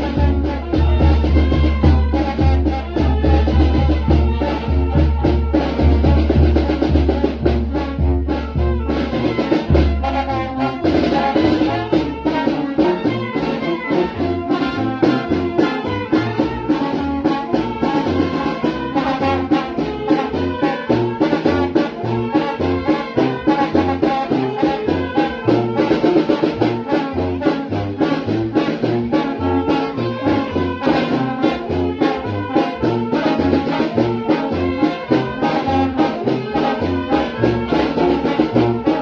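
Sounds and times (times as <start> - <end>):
brass band playing: 0.0 - 39.0
steady percussion: 0.0 - 39.0.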